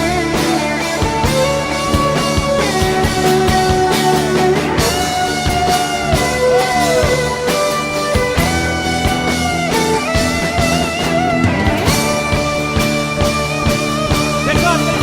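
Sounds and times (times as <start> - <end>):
drums: 0.0 - 15.0
lead guitar bending notes: 0.0 - 15.0
steady bass: 0.0 - 15.0.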